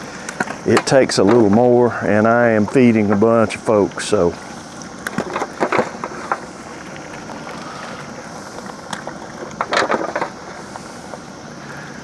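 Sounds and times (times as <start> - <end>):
pot of water boiling: 0.0 - 12.0.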